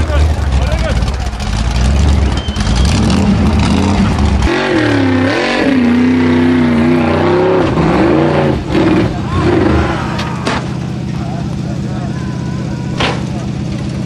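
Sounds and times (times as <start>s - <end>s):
buggy engines at full throttle: 0.0s - 14.0s
high-revving engine: 0.0s - 14.0s.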